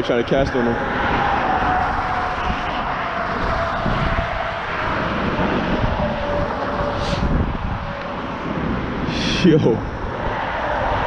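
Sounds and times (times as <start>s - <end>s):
jet airplane flying over: 0.0s - 11.0s.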